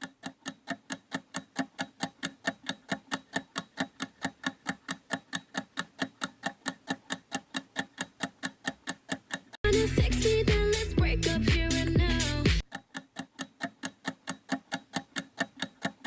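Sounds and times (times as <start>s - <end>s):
rapid even ticking: 0.0s - 16.0s.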